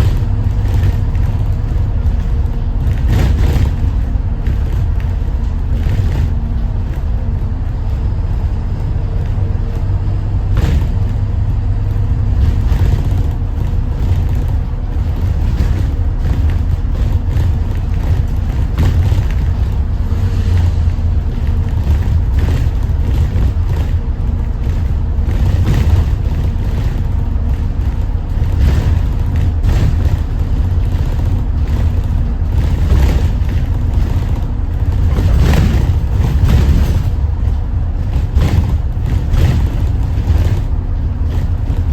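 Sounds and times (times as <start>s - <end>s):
bus diesel engine rumbling: 0.0s - 41.9s
knocks and rattles: 0.0s - 41.9s.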